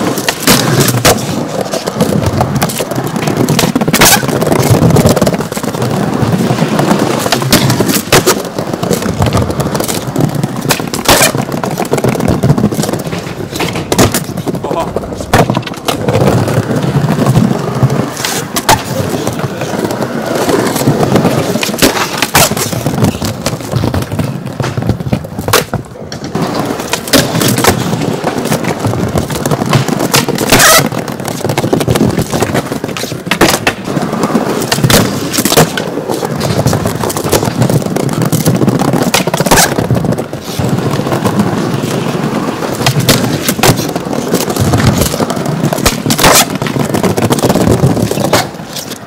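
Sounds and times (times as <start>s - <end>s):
skateboard clacks: 0.0s - 49.0s
skateboard wheels rolling on concrete: 0.0s - 49.0s.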